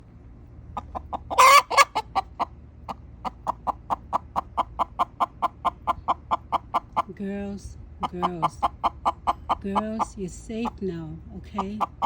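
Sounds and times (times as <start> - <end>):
hens alarm clucking: 0.7 - 7.2, 8.0 - 12.0.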